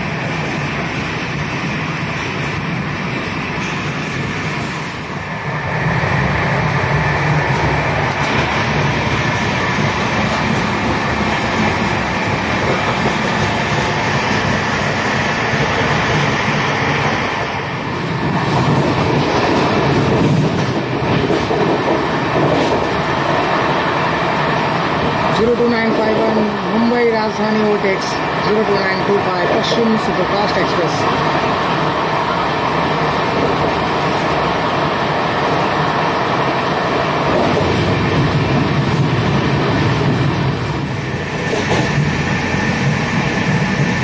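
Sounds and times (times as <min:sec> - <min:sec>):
train wheels rolling over rails: 0:00.0 - 0:44.0.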